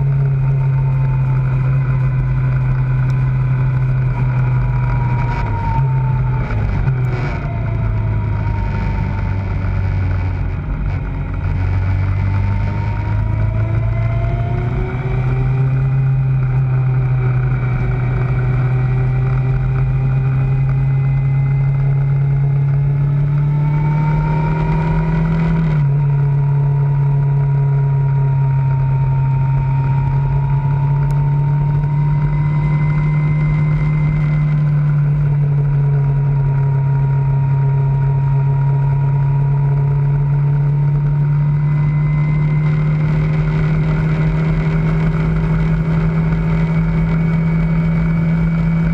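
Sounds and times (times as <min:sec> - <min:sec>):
motorcycle engine shifting gears: 0:00.0 - 0:48.9.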